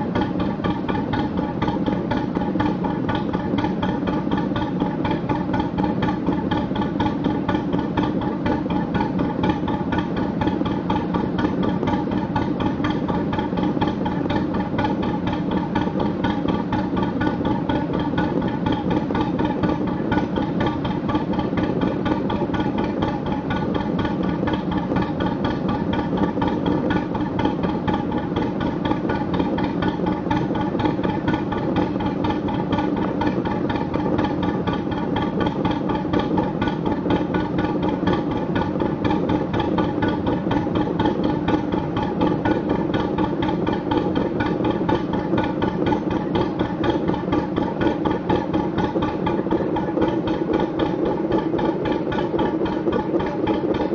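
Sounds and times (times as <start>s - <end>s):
boat diesel engine running: 0.0s - 53.9s.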